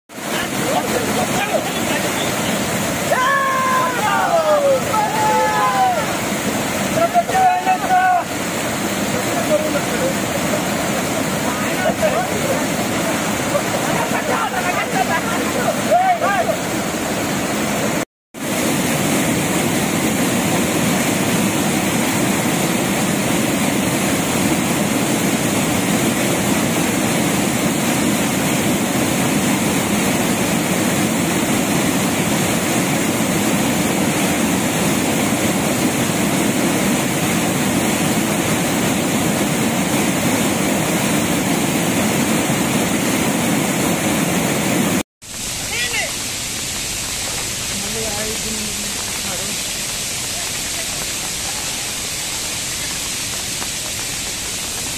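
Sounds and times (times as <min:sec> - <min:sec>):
floodwater rushing: 0:00.1 - 0:54.9.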